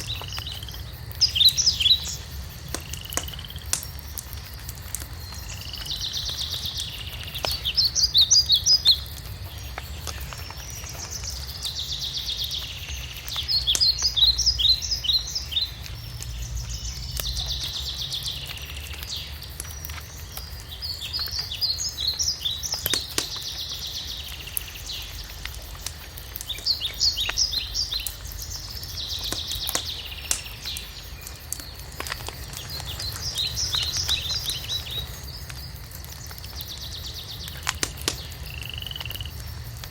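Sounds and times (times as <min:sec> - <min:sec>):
fireplace fire crackling: 0:00.0 - 0:39.9
songbird singing: 0:00.0 - 0:39.9.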